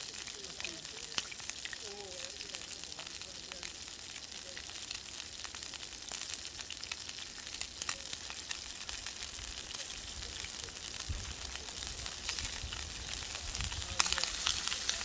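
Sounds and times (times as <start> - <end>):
steak sizzling over fire: 0.0 - 15.0.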